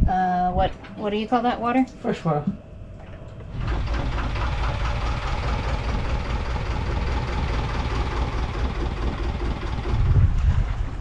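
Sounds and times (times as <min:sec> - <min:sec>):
boat engine idling: 0:01.0 - 0:11.0.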